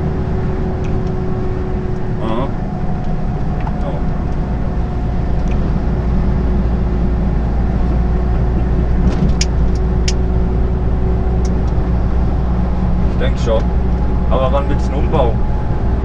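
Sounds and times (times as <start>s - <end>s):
truck engine and tyres drone: 0.0s - 16.0s.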